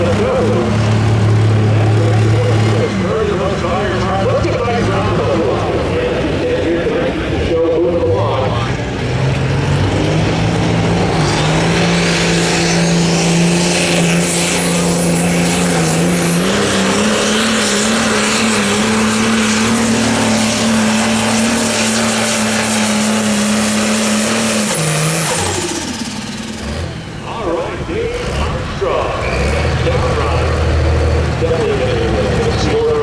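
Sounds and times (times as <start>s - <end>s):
diesel engine running flat out: 0.0s - 33.0s
high turbo whine: 0.0s - 33.0s.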